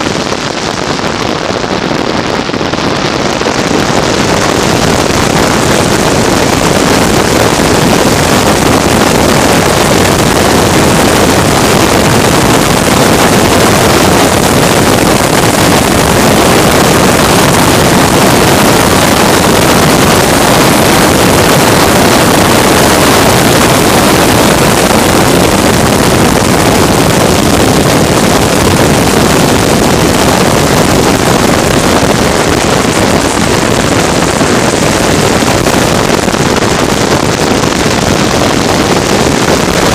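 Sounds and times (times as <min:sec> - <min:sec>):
wind roaring on microphone: 0:00.0 - 0:39.9.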